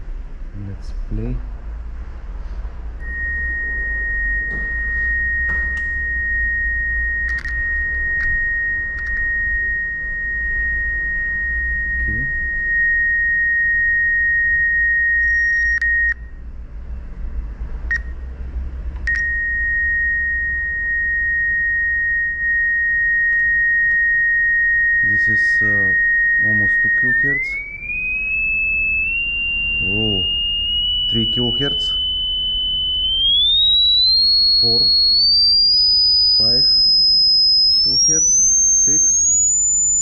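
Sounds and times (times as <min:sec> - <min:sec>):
low hum: 0:00.0 - 0:40.0
steady high test tone: 0:03.0 - 0:17.1, 0:17.8 - 0:40.0.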